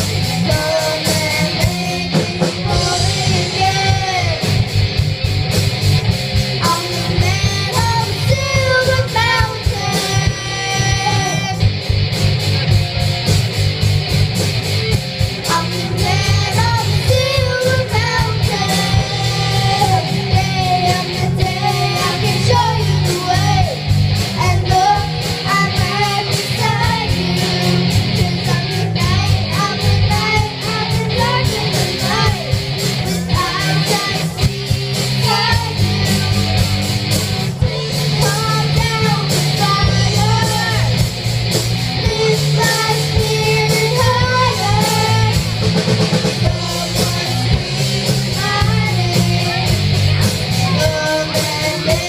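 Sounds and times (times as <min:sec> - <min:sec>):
person singing: 0:00.0 - 0:04.6, 0:06.6 - 0:11.7, 0:15.4 - 0:36.9, 0:37.6 - 0:41.1, 0:41.9 - 0:52.0
bass: 0:00.0 - 0:52.0
drums: 0:00.0 - 0:52.0
guitar: 0:00.0 - 0:52.0.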